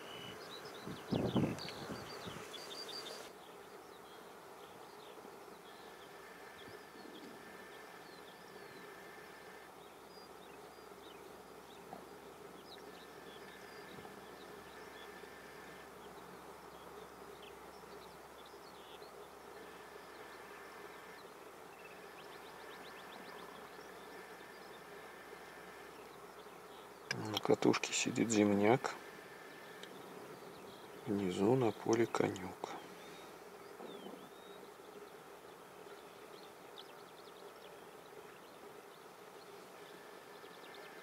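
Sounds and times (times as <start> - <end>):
low hiss: 0.0 - 41.0
songbird chirps: 0.0 - 41.0.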